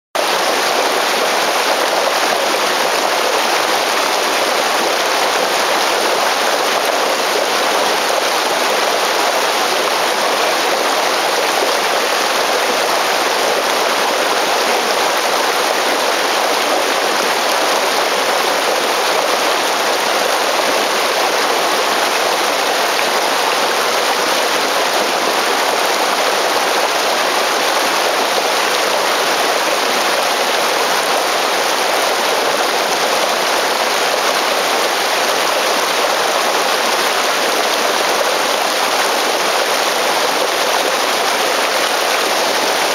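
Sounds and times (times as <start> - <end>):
waterfall rushing: 0.2 - 42.9.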